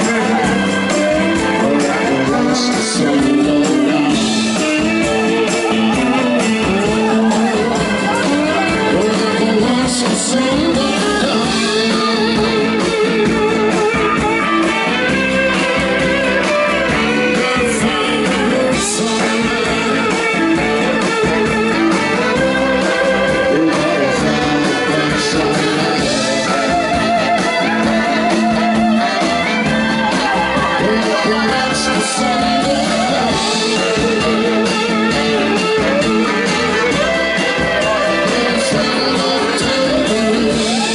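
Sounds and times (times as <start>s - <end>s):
live blues-rock band playing: 0.0s - 40.9s.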